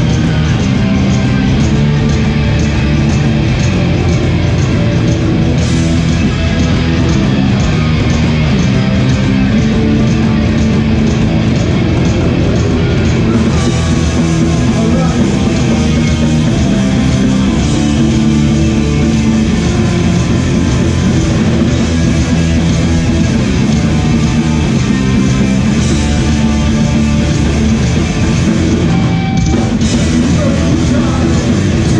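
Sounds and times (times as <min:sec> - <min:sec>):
bass guitar: 0:00.0 - 0:31.9
distorted electric guitars: 0:00.0 - 0:31.9
drums: 0:00.0 - 0:31.9.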